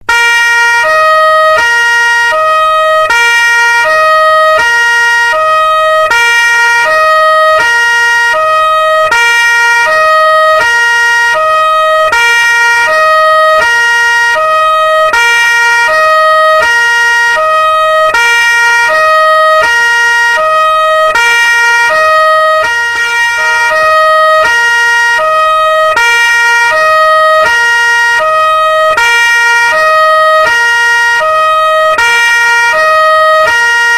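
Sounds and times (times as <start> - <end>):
two-tone police siren: 0.0 - 33.9.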